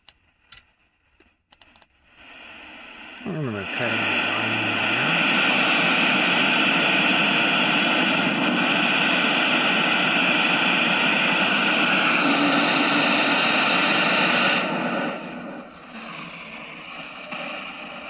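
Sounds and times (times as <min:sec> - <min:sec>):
radio static hiss: 0:02.2 - 0:18.0.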